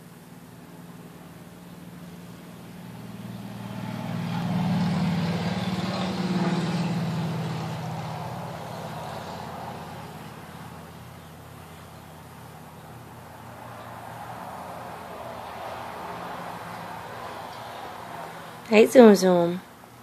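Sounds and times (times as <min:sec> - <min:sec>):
steady low hum: 0:00.0 - 0:20.0
vehicle driving past: 0:00.8 - 0:19.6.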